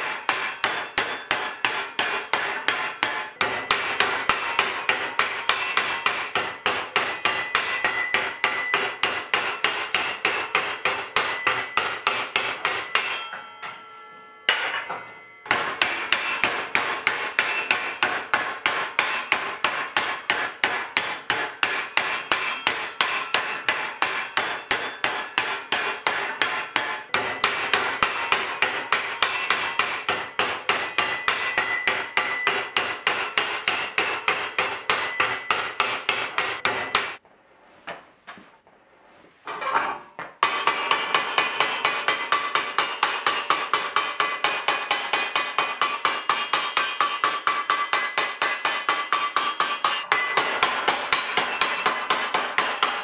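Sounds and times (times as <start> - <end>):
hammer striking hot steel: 0.0 - 37.2, 40.4 - 53.0.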